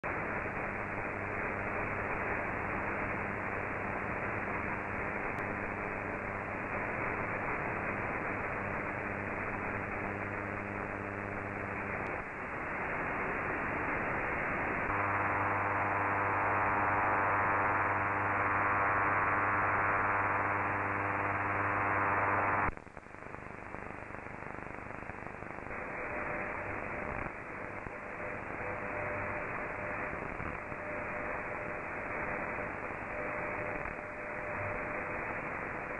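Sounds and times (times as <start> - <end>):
radio hiss and static: 0.0 - 35.9
steady radio hum: 0.0 - 35.9
faint steady tones: 0.1 - 35.9.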